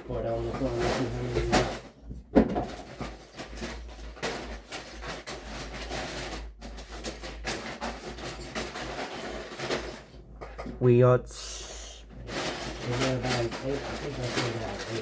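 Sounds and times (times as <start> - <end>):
plastic pieces rustling and rattling: 0.1 - 10.8, 12.1 - 15.0.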